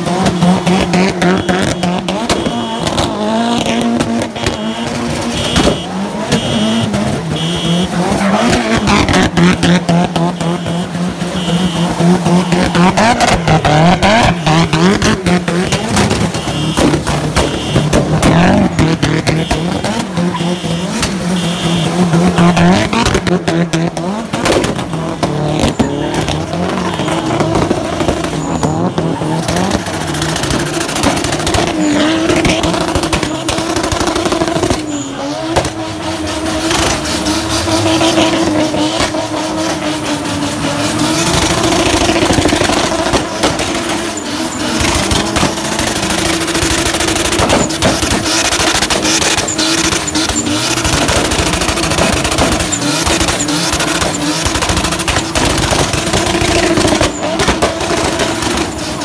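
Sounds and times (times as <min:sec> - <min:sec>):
car engine at high revs: 0:00.0 - 0:59.0
tyres squealing: 0:00.1 - 0:59.0.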